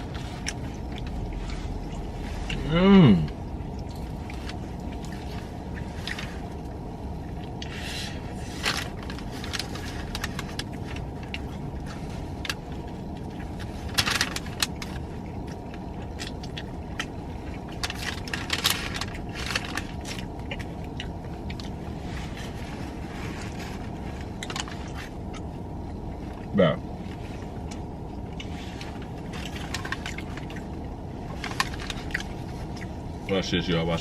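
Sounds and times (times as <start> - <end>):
car cabin rumble: 0.0 - 34.0
rustles and clicks of handling: 0.0 - 34.0.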